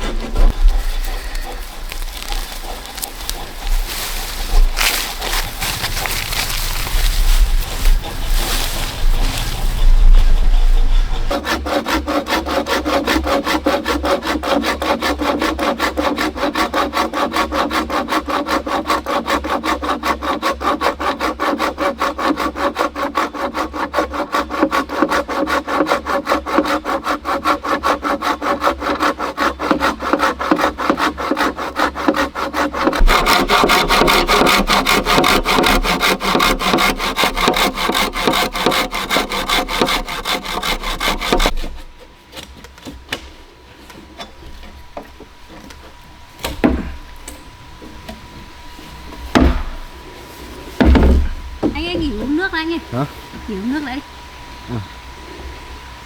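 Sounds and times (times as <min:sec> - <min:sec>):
hand saw cutting bamboo: 0:00.0 - 0:52.7.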